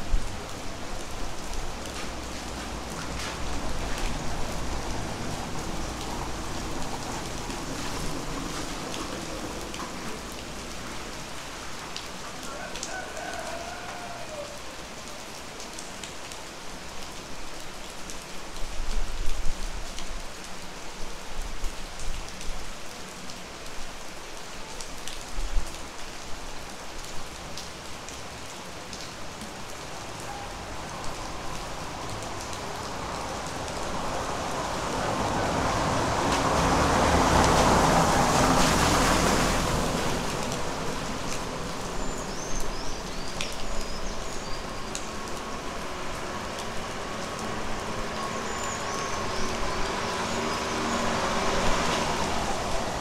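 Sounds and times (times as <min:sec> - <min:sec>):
vehicle: 0:00.0 - 0:18.7, 0:19.6 - 0:53.0
rain on foliage and rooftops: 0:00.0 - 0:53.0.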